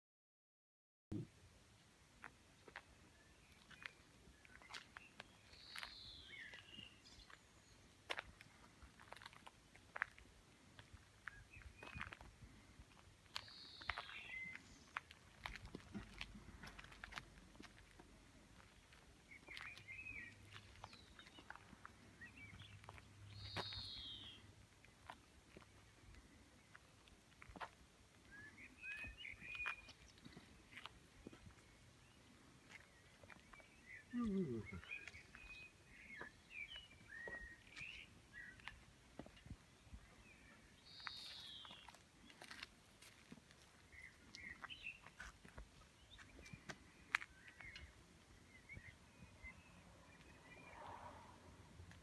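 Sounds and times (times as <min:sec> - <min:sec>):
faint songbird chirps: 0:01.1 - 0:52.0.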